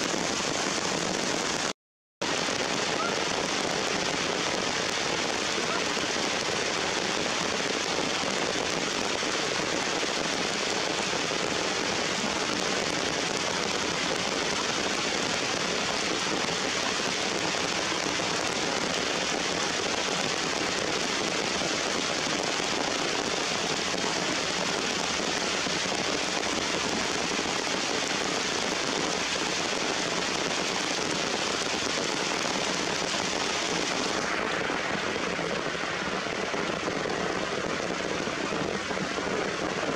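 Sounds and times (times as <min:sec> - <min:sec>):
heavy rain on rocks and leaves: 0:00.0 - 0:39.9.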